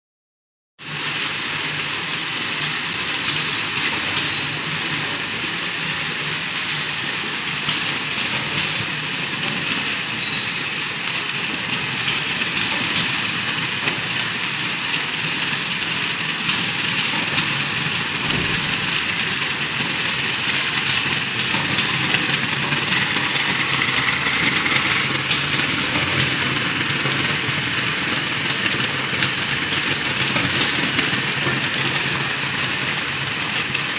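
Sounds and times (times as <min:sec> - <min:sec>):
machines hissing and whirring: 0:00.9 - 0:33.9.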